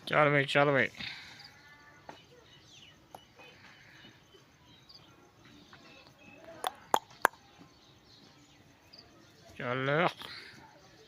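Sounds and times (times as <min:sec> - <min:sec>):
faint bird chirps: 0:01.0 - 0:11.0.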